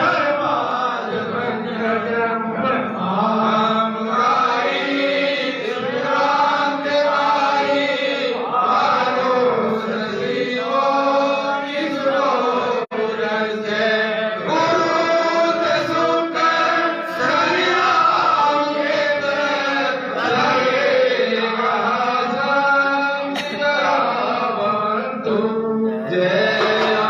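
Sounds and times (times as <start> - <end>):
voices singing devotional chant: 0.0 - 27.0.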